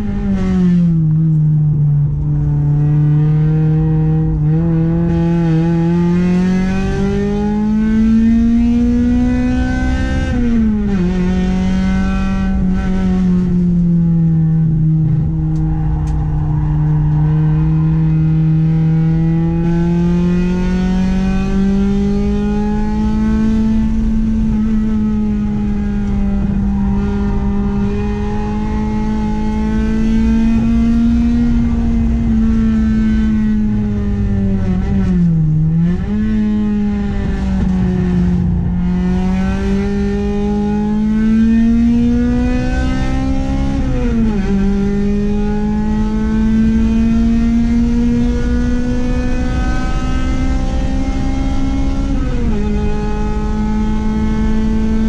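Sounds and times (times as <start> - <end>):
car engine revving high: 2.0 - 55.0.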